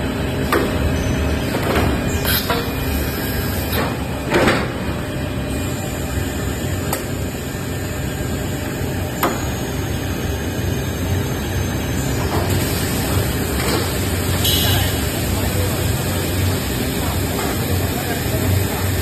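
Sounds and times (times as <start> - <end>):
steady machine noise: 0.0 - 19.0.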